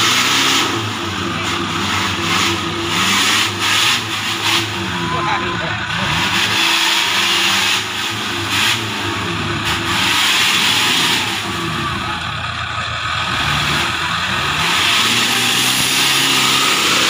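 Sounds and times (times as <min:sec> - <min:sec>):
off-road engine revving: 0:00.0 - 0:17.0.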